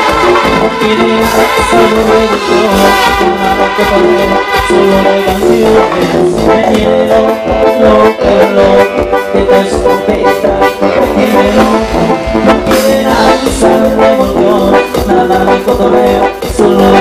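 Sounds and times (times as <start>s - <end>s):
drum beat: 0.0s - 17.0s
live band playing dance music: 0.0s - 17.0s.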